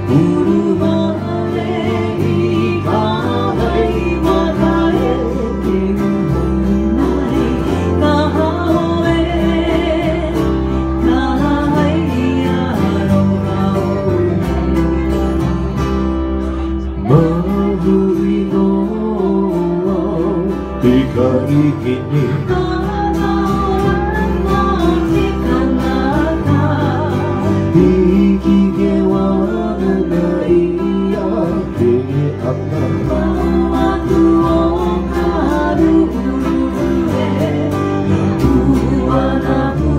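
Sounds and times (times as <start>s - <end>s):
bass line: 0.0s - 39.9s
person singing: 0.0s - 39.9s
strummed acoustic guitars: 0.0s - 39.9s
ukuleles strumming: 0.0s - 39.9s.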